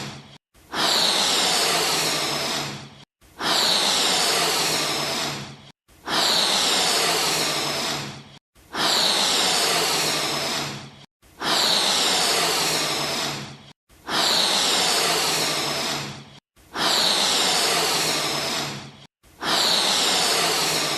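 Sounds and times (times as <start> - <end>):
balloon being inflated: 0.0 - 20.9.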